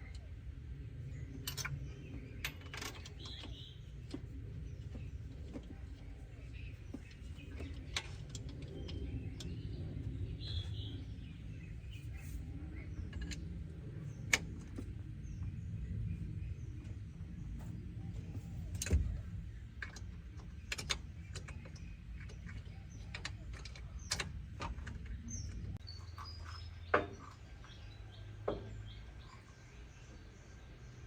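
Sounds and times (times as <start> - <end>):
low steady hum: 0.0 - 31.0
small birds chirping: 0.0 - 31.0.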